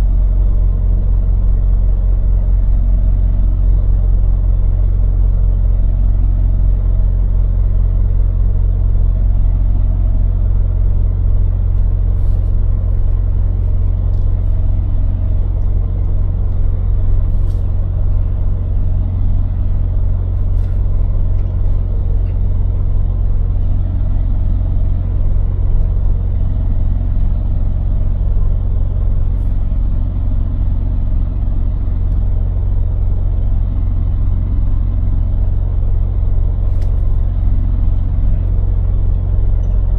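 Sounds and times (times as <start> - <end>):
lorry engine and road rumble: 0.0 - 39.9.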